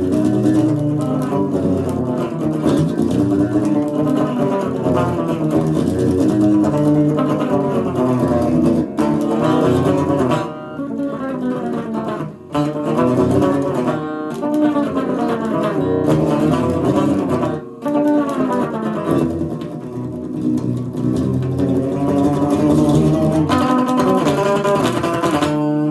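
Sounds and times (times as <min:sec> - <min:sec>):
unplugged electric guitar riff: 0:00.0 - 0:25.9.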